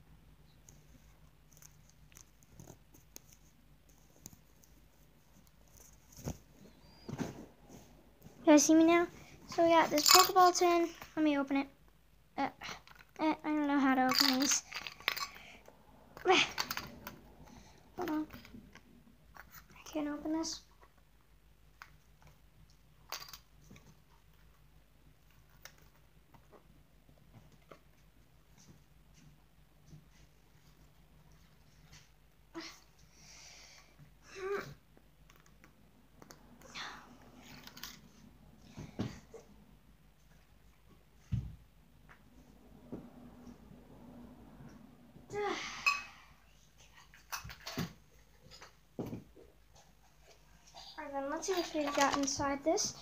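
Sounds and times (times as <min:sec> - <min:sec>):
faint room hum: 0:00.0 - 0:53.0.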